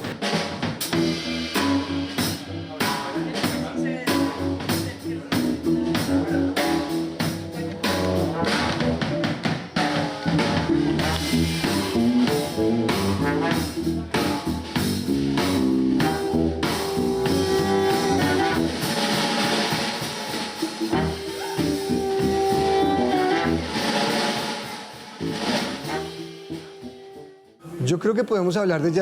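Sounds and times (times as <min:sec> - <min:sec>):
busy drumming: 0:00.0 - 0:27.2
instrumental jazz band: 0:00.0 - 0:27.6.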